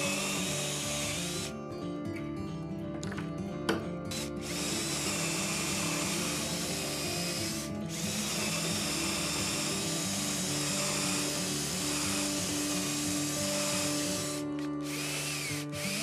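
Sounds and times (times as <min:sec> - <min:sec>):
cordless drill boring into plywood: 0:00.0 - 0:01.5, 0:04.1 - 0:16.0
background music: 0:00.0 - 0:16.0.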